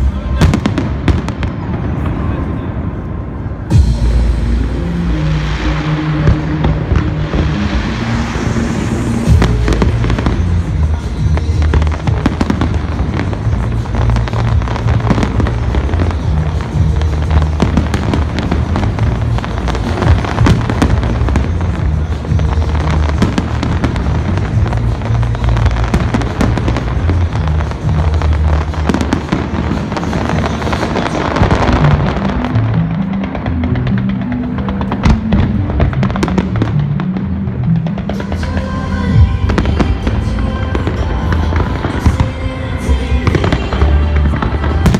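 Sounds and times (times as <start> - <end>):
loud bass-heavy music: 0.0 - 2.2, 3.5 - 44.9
fireworks banging and crackling: 0.0 - 44.9.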